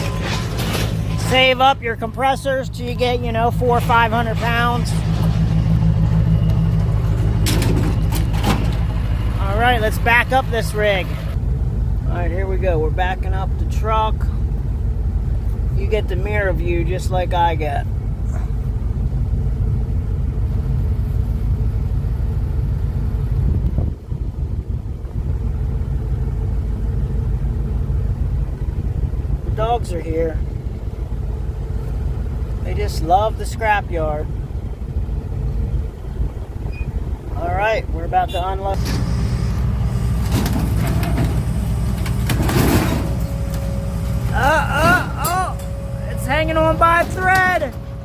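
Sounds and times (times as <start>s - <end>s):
truck engine low rumble: 0.0s - 48.0s.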